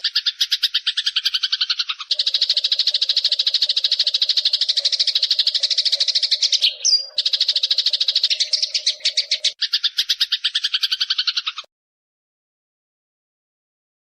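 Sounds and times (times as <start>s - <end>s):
sparrow chirp: 0.0s - 11.7s
sparrow rattling chatter: 0.0s - 11.7s.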